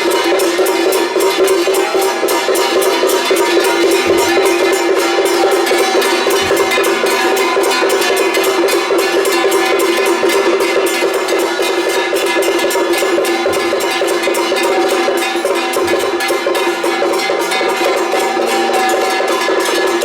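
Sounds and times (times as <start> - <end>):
drums: 0.0 - 20.0
gongs and cymbals clashing: 0.0 - 20.0.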